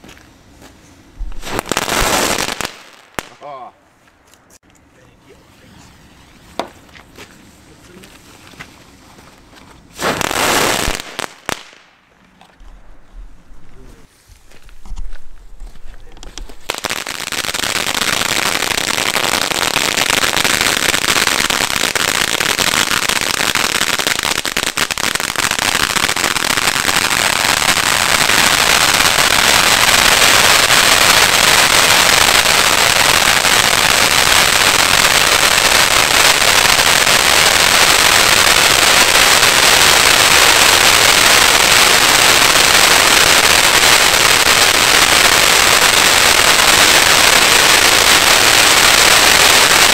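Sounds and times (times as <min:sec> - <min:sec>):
firework fountain hissing and popping: 0:00.0 - 0:03.5, 0:05.3 - 0:12.0, 0:16.3 - 0:49.9.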